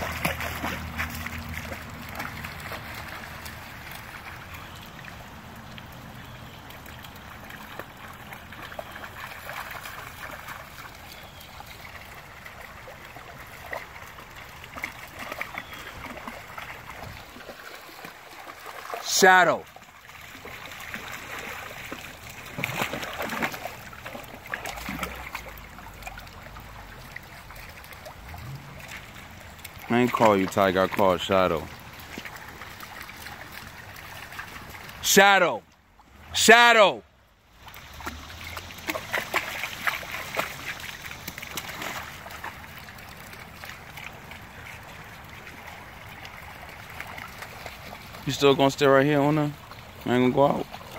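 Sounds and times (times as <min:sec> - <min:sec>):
small splashes and clicks: 0:00.0 - 0:19.0, 0:19.6 - 0:35.0, 0:37.3 - 0:50.9
river water rippling: 0:00.0 - 0:50.9
stream flowing: 0:00.0 - 0:50.9.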